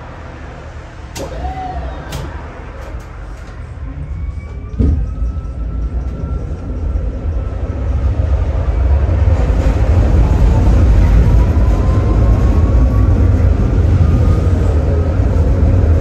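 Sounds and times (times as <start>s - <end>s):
tram wheels rumbling on track: 0.0s - 16.0s.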